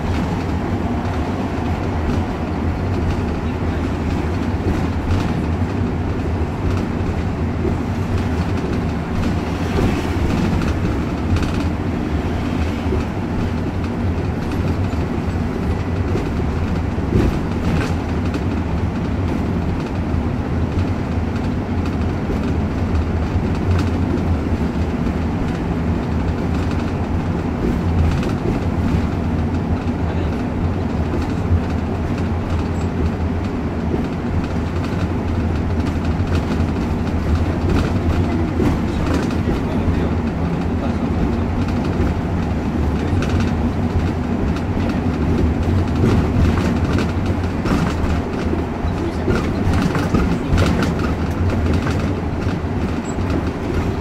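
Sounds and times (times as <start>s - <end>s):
bus engine and tyres rumbling: 0.0s - 54.0s.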